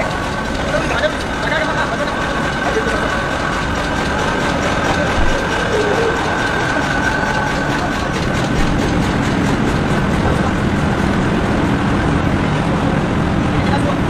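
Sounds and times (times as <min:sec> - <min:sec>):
machinery rattling clatter: 0:00.0 - 0:14.0.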